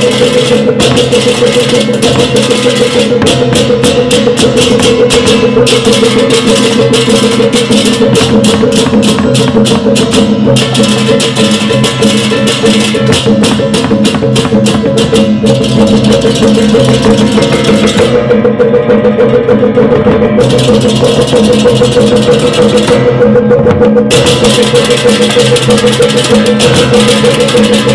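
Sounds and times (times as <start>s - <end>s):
gamelan ensemble playing: 0.0s - 27.9s.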